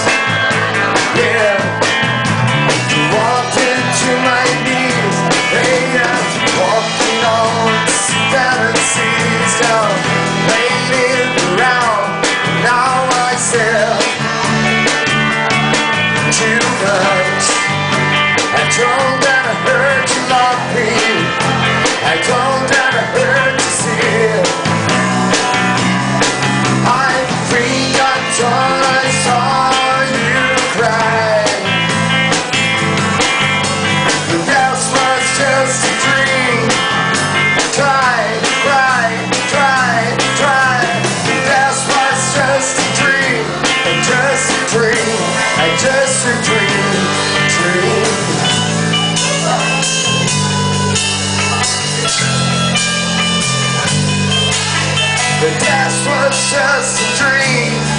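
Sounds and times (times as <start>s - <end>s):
guitar: 0.0s - 57.9s
live rock band: 0.0s - 57.9s.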